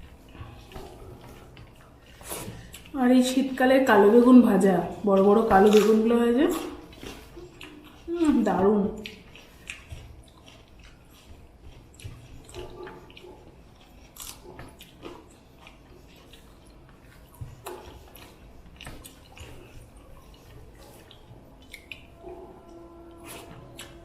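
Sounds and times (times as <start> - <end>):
chewing and smacking: 0.0 - 24.0.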